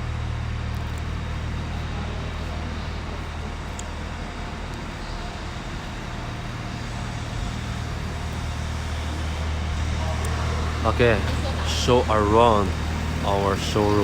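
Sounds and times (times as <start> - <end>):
large engine humming: 0.0 - 14.0.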